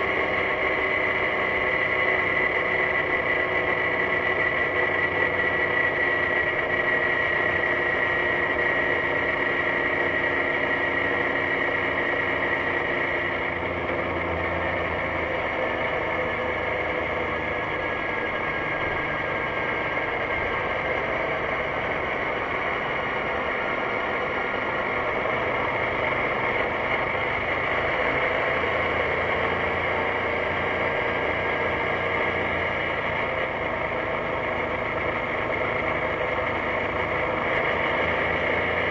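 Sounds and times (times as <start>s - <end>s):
high engine whine: 0.0s - 38.9s
scooter engine humming: 0.0s - 38.9s.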